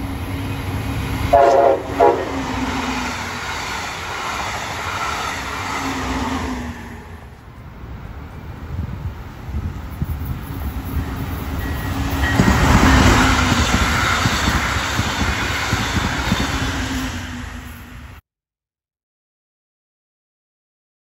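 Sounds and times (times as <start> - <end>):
passenger train passing at speed: 0.0 - 18.2.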